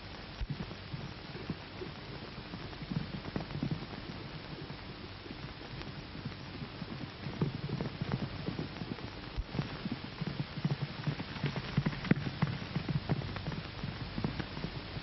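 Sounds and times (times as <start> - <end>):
steady hiss: 0.0 - 15.0
horses galloping hoofbeats: 0.4 - 15.0.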